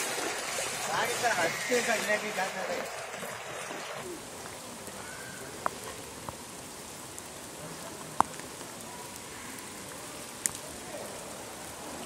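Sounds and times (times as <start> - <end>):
rain falling on standing water: 0.0 - 12.0.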